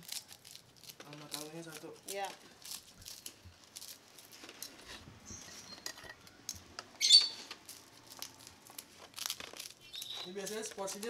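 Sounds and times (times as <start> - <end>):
paper rustling: 0.0 - 5.7, 7.4 - 11.0.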